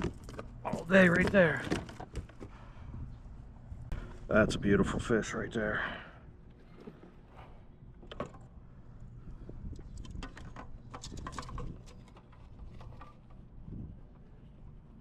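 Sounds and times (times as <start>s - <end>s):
low steady rumble: 2.4s - 15.0s.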